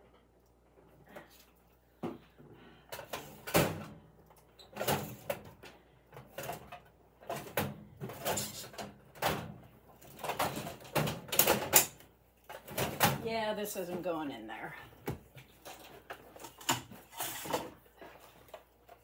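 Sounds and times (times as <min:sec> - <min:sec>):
household items rustling and clunking: 0:00.0 - 0:19.0.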